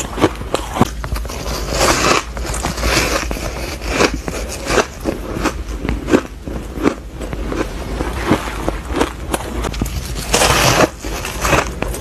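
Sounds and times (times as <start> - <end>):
ice being chewed: 0.0 - 12.0.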